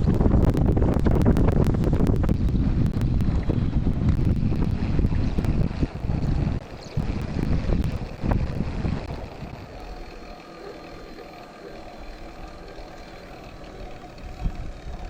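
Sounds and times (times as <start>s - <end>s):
wind buffeting microphone: 0.0s - 11.1s, 12.0s - 15.0s.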